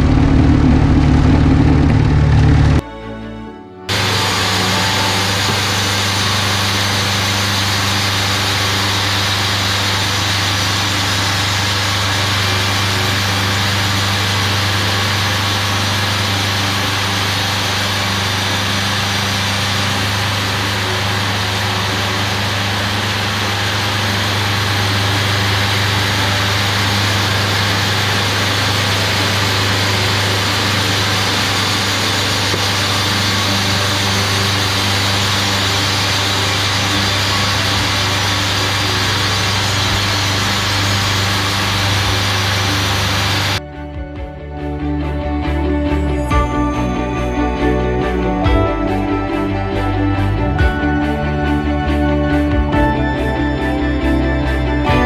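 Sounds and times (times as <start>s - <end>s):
band sawmill running: 0.0s - 55.0s.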